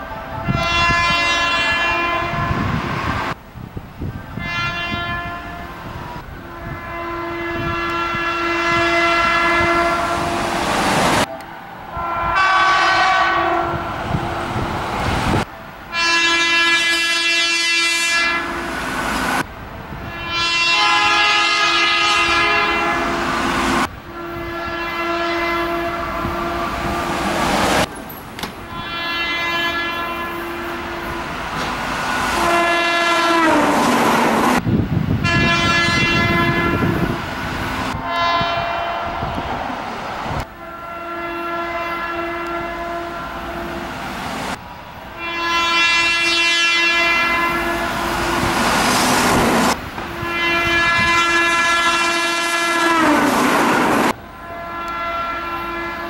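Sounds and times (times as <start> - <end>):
train horn blasts: 0.0 - 3.4, 4.1 - 14.7, 15.9 - 27.9, 28.6 - 34.6, 35.2 - 39.6, 40.2 - 43.9, 45.1 - 56.0
train rumble: 0.0 - 56.0.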